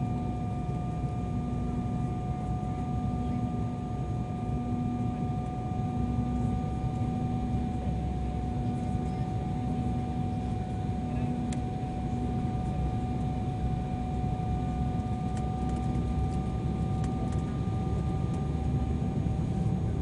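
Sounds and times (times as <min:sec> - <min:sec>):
airliner cabin rumble: 0:00.0 - 0:20.0
high jet engine whine: 0:00.0 - 0:20.0
pulsing low hum: 0:00.0 - 0:20.0.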